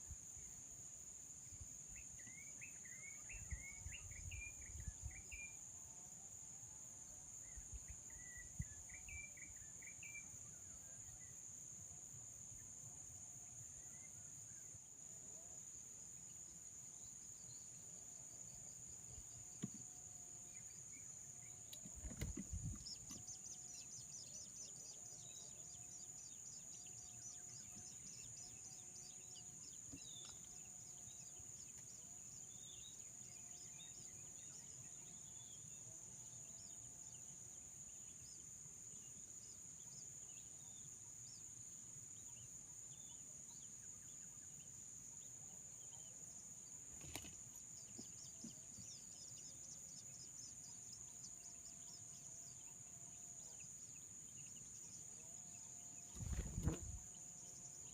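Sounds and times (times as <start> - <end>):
faint bird chirps: 1.4 - 11.6, 13.4 - 57.9.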